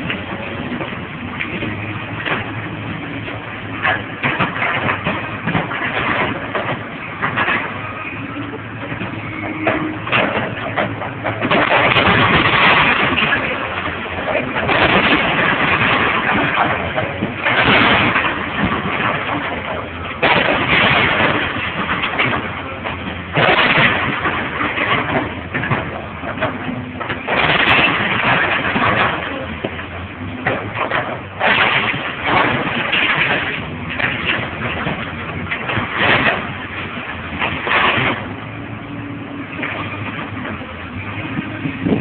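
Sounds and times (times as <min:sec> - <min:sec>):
excavator diesel engine running: 0:00.0 - 0:42.0
wooden structure crashing and crunching: 0:00.0 - 0:42.0.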